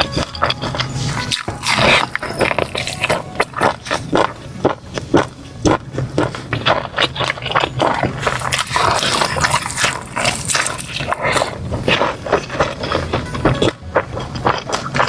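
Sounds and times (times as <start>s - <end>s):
crunching and chewing chicken wings: 0.0s - 15.0s.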